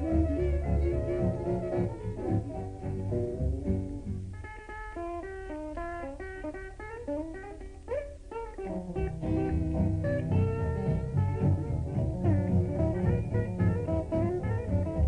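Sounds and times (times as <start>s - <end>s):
string band rhythm accompaniment: 0.0s - 5.2s, 5.8s - 15.0s
guitar picking quick runs: 0.0s - 15.0s.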